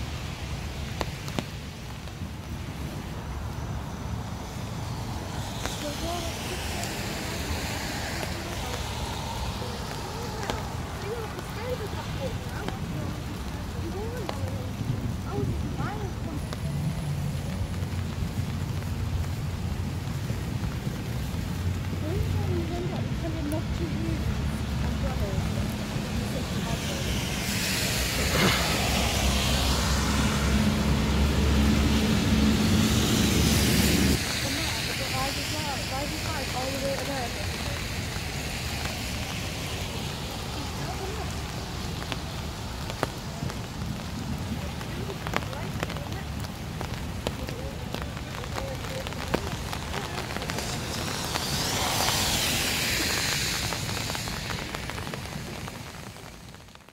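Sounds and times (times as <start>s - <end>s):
steady rain: 0.0s - 56.9s
tyres hissing on wet road: 0.0s - 56.9s
raindrop ticks: 0.2s - 56.9s.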